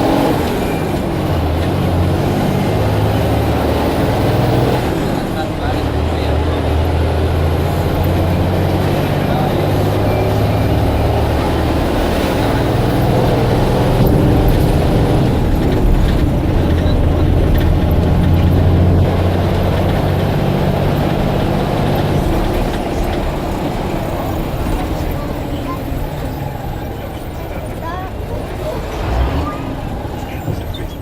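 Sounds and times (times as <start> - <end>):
bus engine droning: 0.0 - 31.0
road noise: 0.0 - 31.0.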